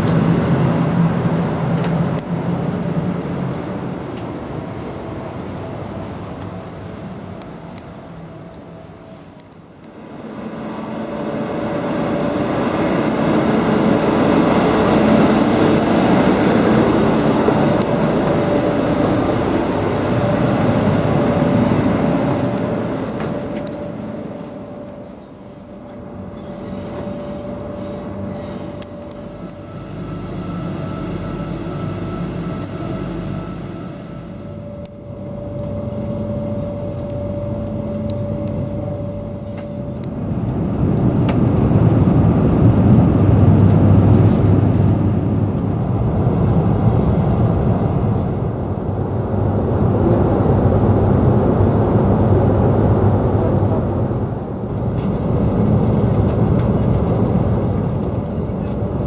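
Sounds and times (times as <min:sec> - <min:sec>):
train carriage hum with whine: 0:00.0 - 0:59.0
train rumble at speed: 0:00.0 - 0:59.0.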